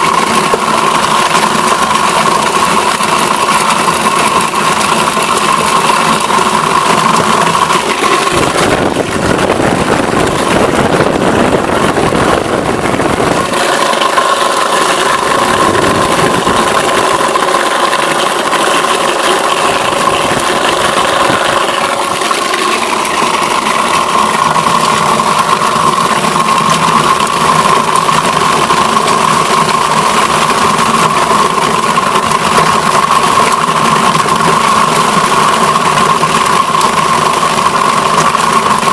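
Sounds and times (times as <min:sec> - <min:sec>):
apple crusher motor whining: 0:00.0 - 0:38.9
rattling churn: 0:00.0 - 0:38.9.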